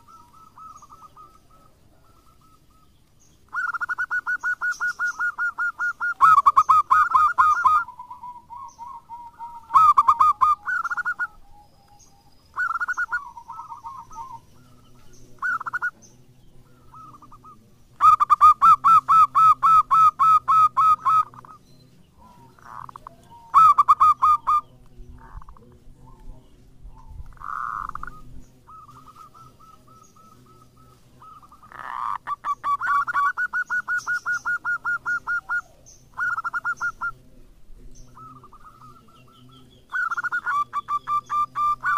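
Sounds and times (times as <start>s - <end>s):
dove cooing in staccato bursts: 0.0s - 41.9s.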